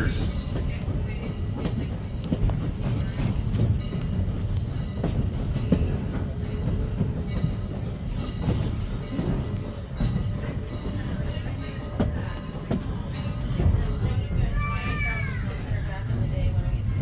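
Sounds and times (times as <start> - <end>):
railroad car rumbling on rails: 0.0 - 17.0
wheels clacking and knocking: 0.4 - 17.0.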